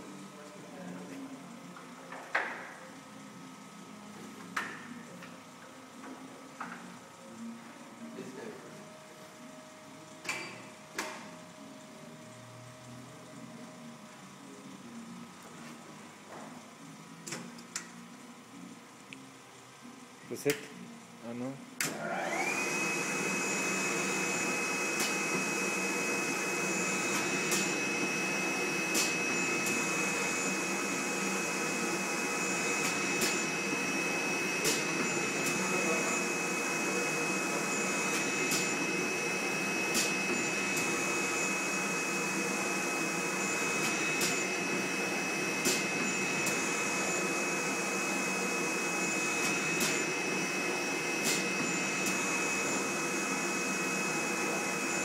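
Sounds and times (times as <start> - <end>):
printing machine motor whine: 0.0 - 55.0.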